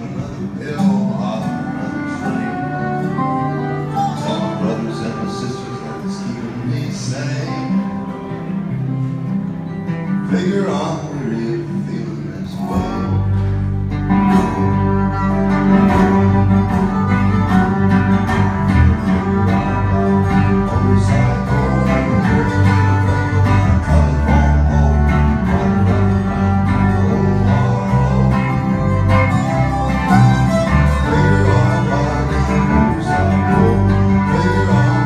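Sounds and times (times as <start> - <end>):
sliding lap steel guitar melody: 0.0 - 10.2, 12.8 - 35.0
acoustic guitar strumming: 0.0 - 35.0.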